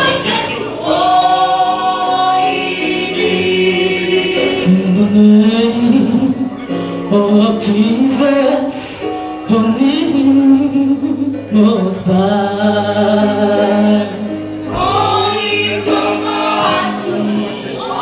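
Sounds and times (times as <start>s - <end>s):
choir singing in harmony: 0.0s - 10.3s, 11.3s - 18.0s
woman singing into microphone: 0.0s - 18.0s.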